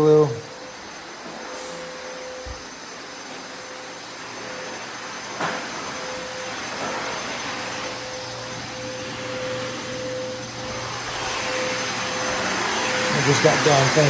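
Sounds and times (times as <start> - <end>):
floor grinder with dust extractor: 0.0 - 14.0.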